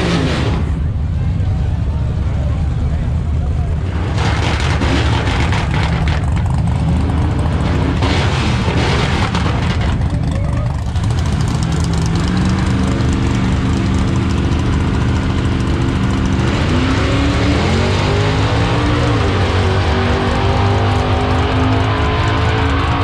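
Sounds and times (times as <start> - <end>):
loud vehicle engine rumble: 0.0 - 23.0
engine accelerating: 2.4 - 23.0.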